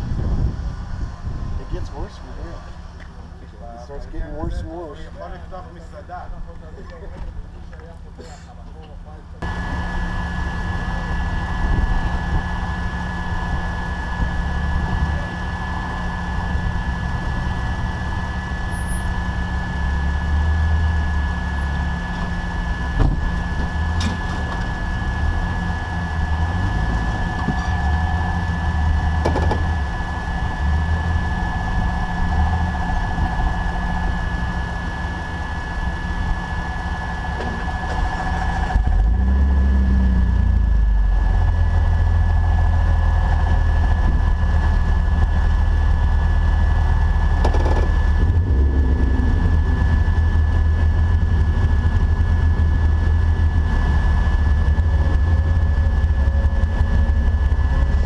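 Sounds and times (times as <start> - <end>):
engine running with high whine: 0.0 - 58.0.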